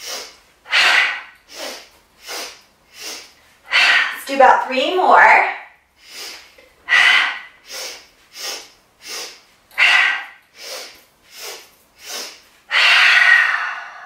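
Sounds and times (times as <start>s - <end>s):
woman inhaling quickly: 0.0s - 4.2s, 6.0s - 14.0s
woman exhaling vigorously: 0.0s - 4.3s, 6.0s - 14.0s.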